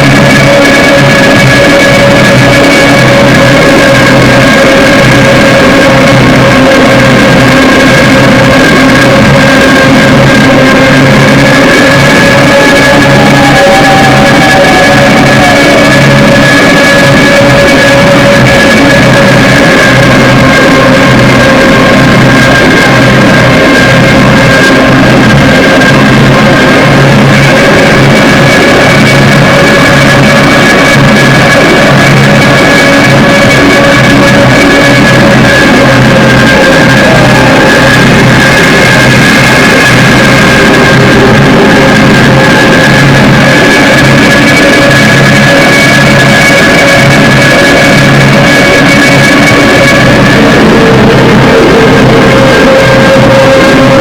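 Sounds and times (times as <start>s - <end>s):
noise metal music: 0.0s - 54.0s.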